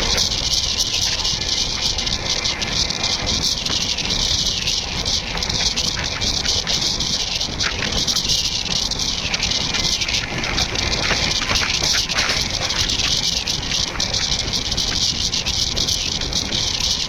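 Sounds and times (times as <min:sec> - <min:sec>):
faint irregular clicks: 0:00.0 - 0:17.0
train wheels rumbling on rail: 0:00.0 - 0:17.0.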